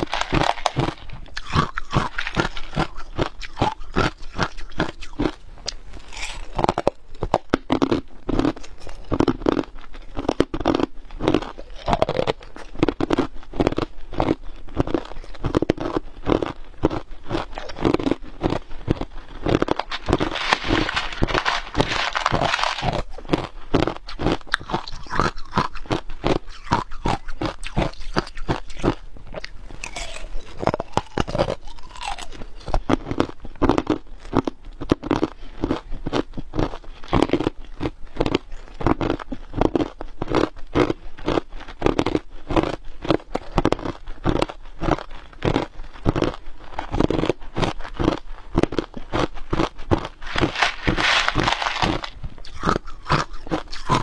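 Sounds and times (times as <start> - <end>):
ice cubes crunched between teeth: 0.0 - 54.0.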